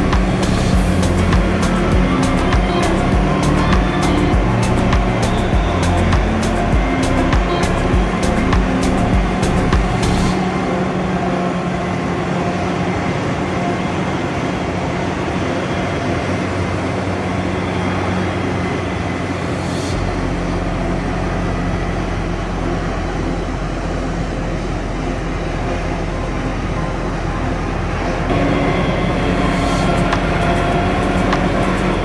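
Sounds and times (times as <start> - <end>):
deeper low hum: 0.0 - 32.0
diesel farm machinery hum: 0.0 - 32.0.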